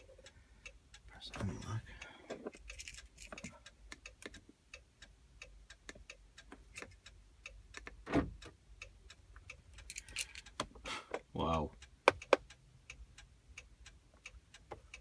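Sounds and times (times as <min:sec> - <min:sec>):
steady ticking: 0:00.0 - 0:15.0.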